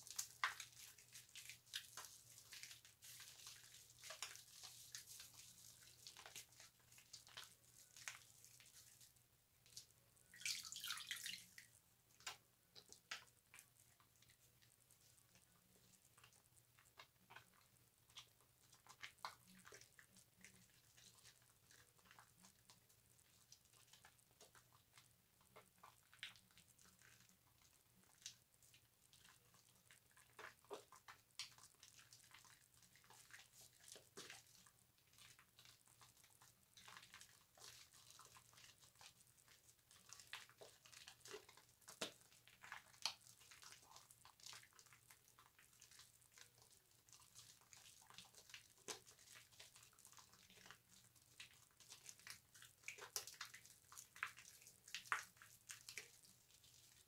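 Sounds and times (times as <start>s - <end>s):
soap lathering in a loofah: 0.0s - 57.0s.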